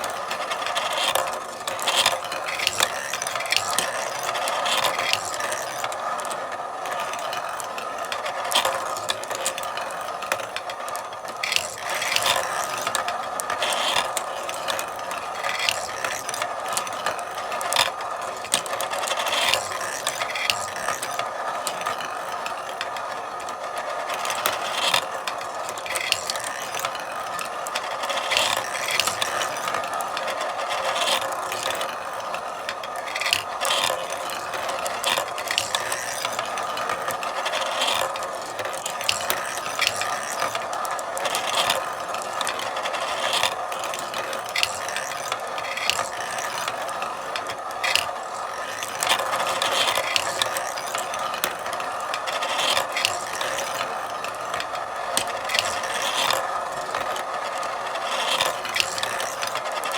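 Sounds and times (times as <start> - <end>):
marbles rolling and clattering: 0.0 - 59.9
sharp marble clicks: 0.0 - 59.9.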